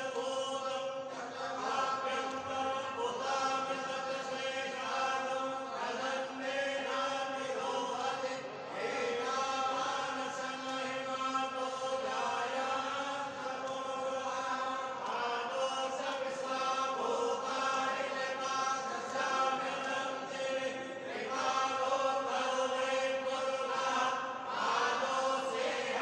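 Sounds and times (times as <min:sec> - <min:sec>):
mantras chanted: 0:00.0 - 0:26.0.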